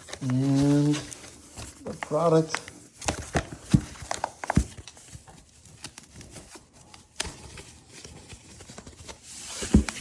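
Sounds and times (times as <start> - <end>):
cardboard box handling rustles: 0.0 - 10.0.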